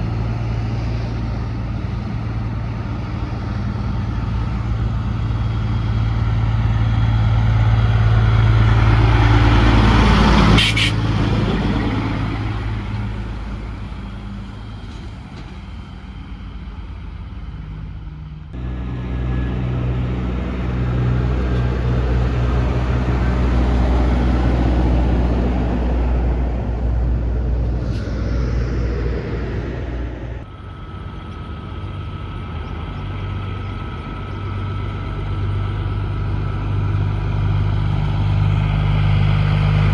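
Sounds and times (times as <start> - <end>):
heavy trucks passing by: 0.0 - 39.9.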